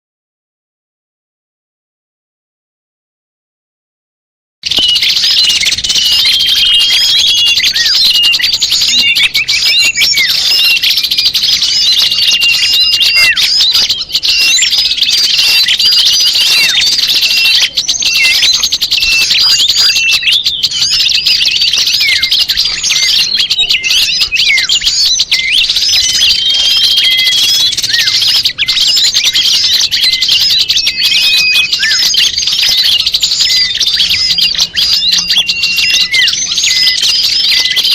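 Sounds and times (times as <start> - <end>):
songbirds chirping and twittering: 4.6 - 37.9.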